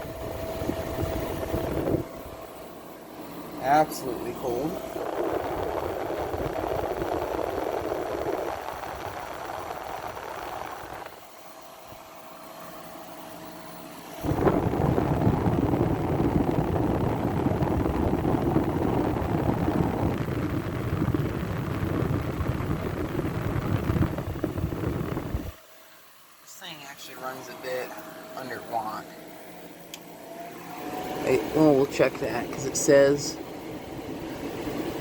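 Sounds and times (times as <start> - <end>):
air conditioner fan whooshing hum: 0.0 - 35.0.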